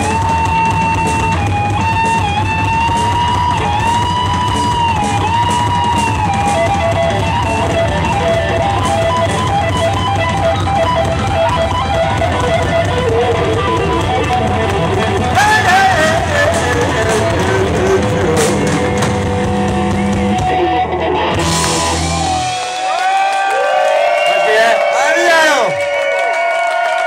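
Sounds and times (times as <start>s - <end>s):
electric guitar solo: 0.0s - 25.8s
bass and drums: 0.0s - 26.9s.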